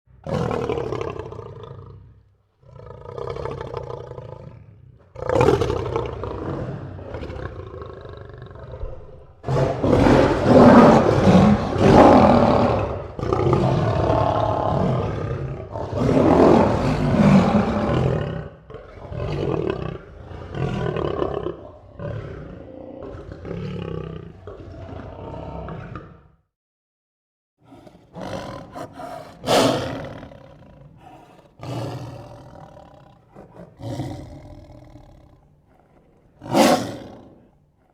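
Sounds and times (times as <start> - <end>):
lion roaring: 0.2 - 26.4, 27.6 - 37.9.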